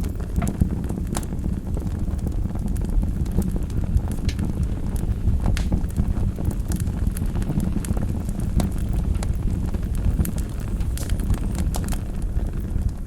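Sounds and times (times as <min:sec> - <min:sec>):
fire crackling and popping: 0:00.0 - 0:13.0
fire rushing: 0:00.0 - 0:13.0.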